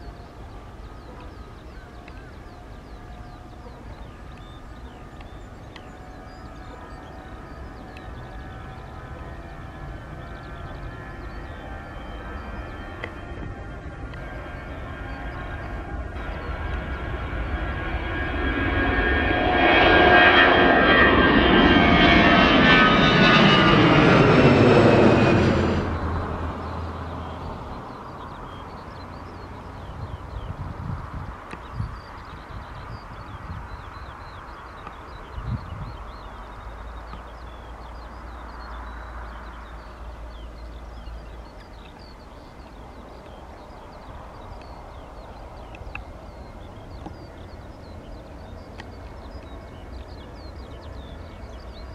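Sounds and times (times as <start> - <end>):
small birds chirping: 0.0 - 19.1, 25.2 - 51.9
high jet whine: 0.0 - 51.9
jet engine roar: 0.0 - 51.9
low rumble: 0.0 - 51.9.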